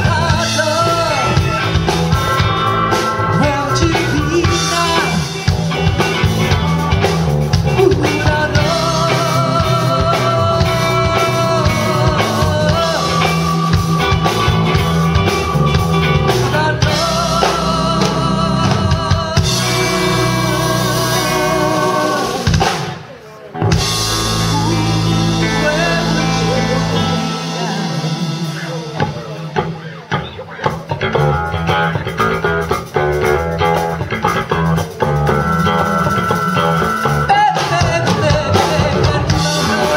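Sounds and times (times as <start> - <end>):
drum kit: 0.0 - 39.9
electric guitars: 0.0 - 39.9
keyboard: 0.0 - 39.9.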